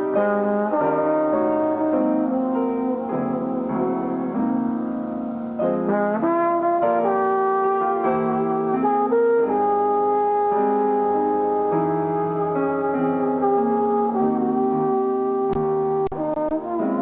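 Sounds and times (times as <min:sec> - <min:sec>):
piano chords: 0:00.0 - 0:17.0
trombone: 0:00.0 - 0:17.0.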